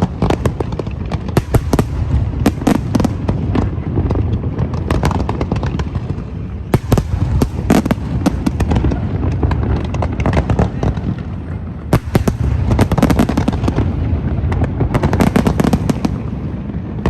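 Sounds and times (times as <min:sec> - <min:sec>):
fireworks bangs and crackles: 0:00.0 - 0:17.0
low rumble of explosions: 0:00.0 - 0:17.0.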